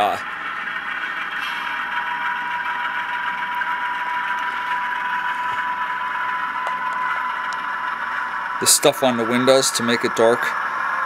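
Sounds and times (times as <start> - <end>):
diesel engine idling through speaker: 0.0 - 11.0
thin steady whine: 0.0 - 11.0.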